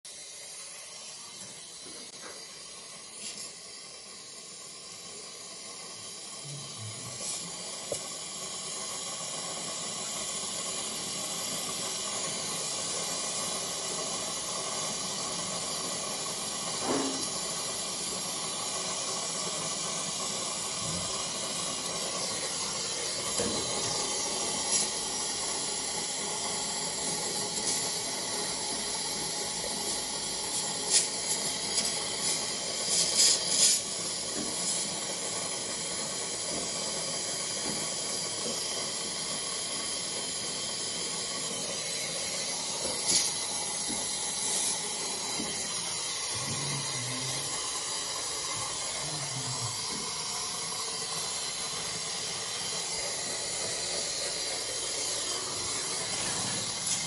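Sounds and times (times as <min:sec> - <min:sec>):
pressurized gas hissing: 0:00.1 - 0:57.0.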